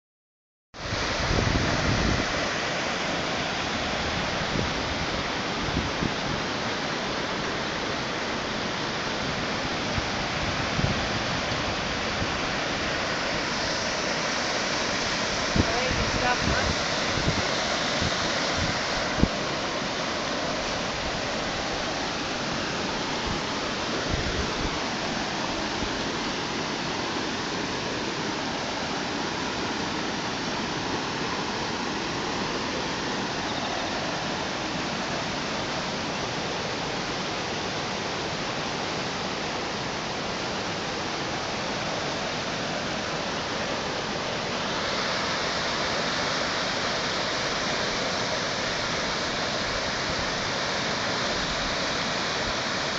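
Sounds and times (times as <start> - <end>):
floodwater rushing: 0.8 - 52.9.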